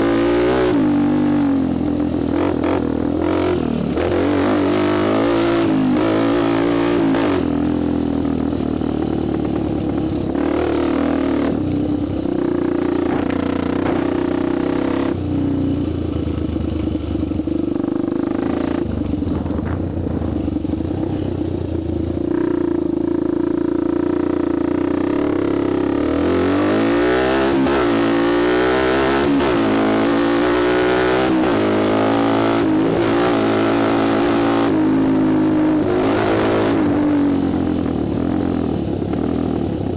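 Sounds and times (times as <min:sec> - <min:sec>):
quad engine revving: 0:00.0 - 0:15.5, 0:17.4 - 0:38.9.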